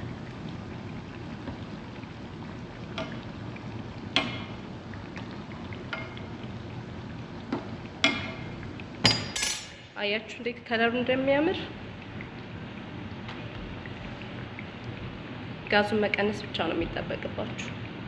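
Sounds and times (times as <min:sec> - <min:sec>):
oil sizzling in a pot: 0:00.0 - 0:18.0.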